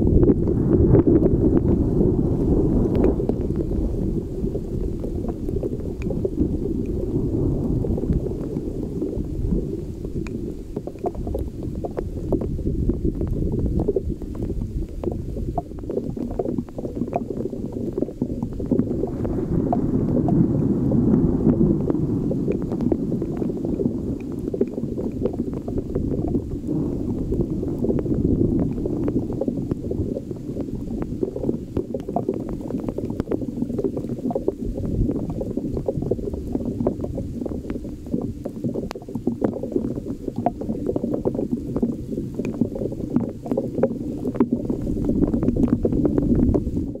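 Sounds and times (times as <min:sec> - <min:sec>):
heavy rain spattering: 0:00.0 - 0:47.0
wind rumble on microphone: 0:00.0 - 0:47.0.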